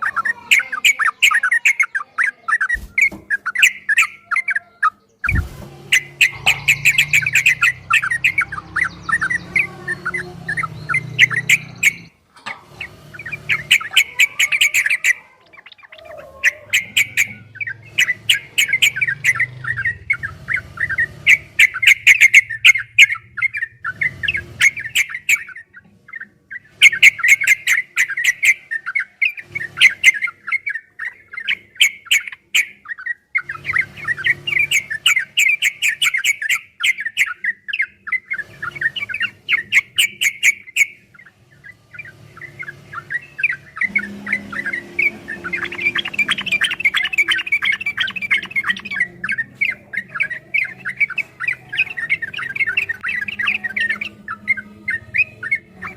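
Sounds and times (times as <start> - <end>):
bird singing chattering notes: 0.0 - 55.9.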